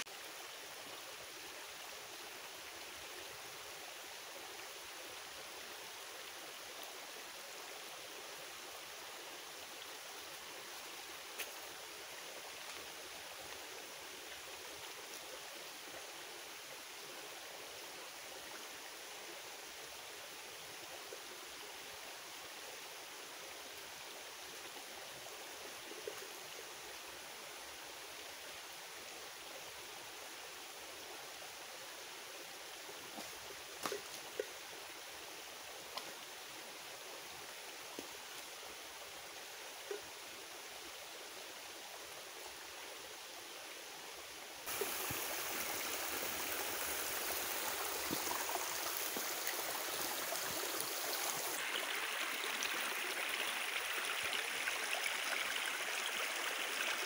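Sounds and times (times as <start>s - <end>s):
woodland stream flowing: 0.0s - 57.0s.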